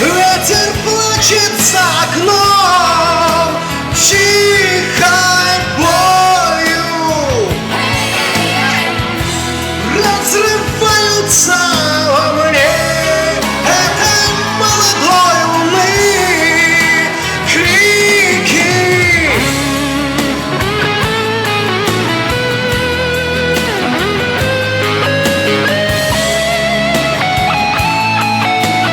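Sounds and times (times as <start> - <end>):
guitar and bass backing track: 0.0 - 28.9
person singing rock-pop ballad: 0.0 - 28.9.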